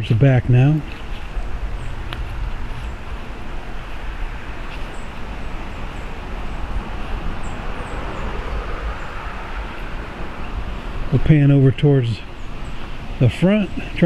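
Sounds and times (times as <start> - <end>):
wind rumbling on microphone: 0.0 - 13.2.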